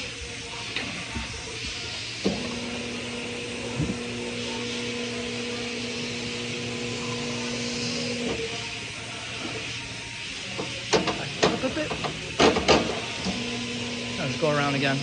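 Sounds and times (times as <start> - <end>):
turntable motor humming: 0.0 - 15.0.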